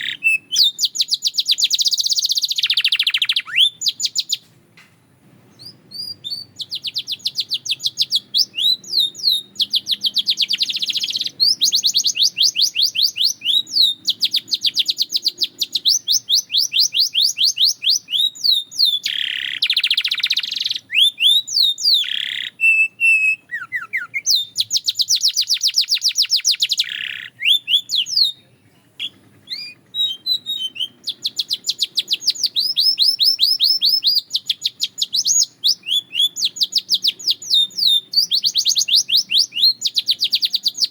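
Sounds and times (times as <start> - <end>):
canary singing rapid trills: 0.0 - 4.4, 5.6 - 40.9.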